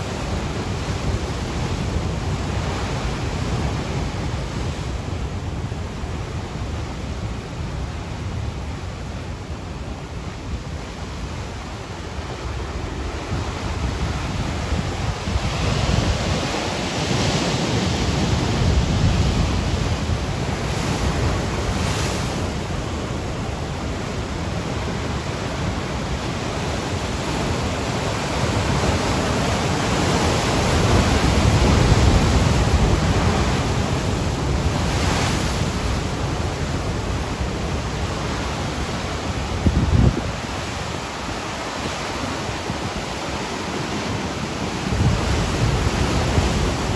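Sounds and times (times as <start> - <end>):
ocean waves washing ashore: 0.0 - 46.9.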